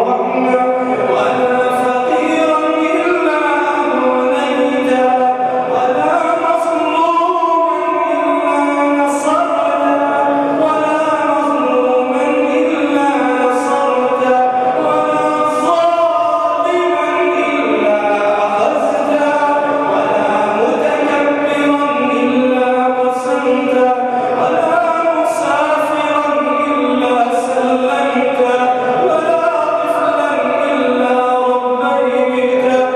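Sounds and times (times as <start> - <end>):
man chanting into a microphone: 0.0 - 32.9.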